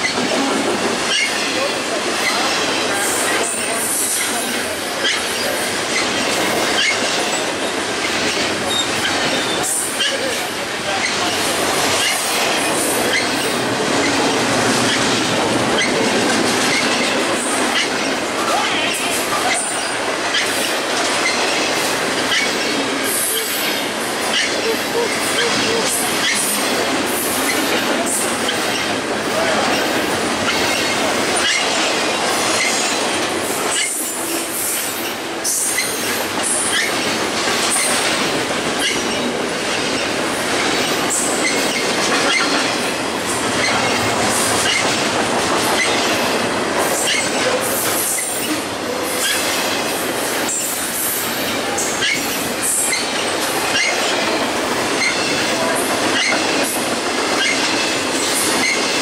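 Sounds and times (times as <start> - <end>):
train clicks and clanks: 0.0 - 59.0
train wheels rushing on rails: 0.0 - 59.0.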